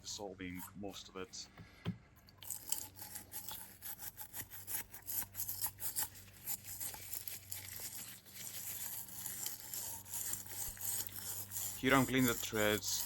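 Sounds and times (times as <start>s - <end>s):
metal tool scraping: 2.4s - 13.0s.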